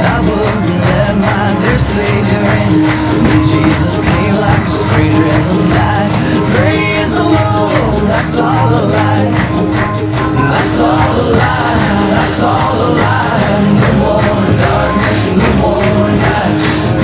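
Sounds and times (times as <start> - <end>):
upbeat music with singing: 0.0 - 17.0.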